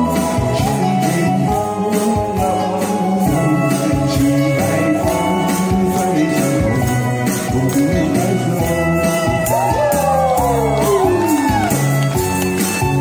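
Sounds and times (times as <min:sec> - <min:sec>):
jingling tambourine: 0:00.0 - 0:13.0
upbeat song over loudspeakers: 0:00.0 - 0:13.0.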